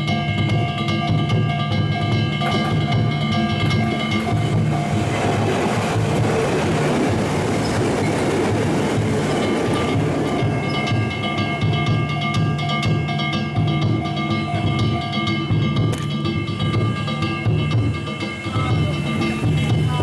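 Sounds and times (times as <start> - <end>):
crossing bell ringing: 0.0 - 20.0
low drumming: 0.0 - 20.0
train wheel and rail noise: 0.0 - 20.0.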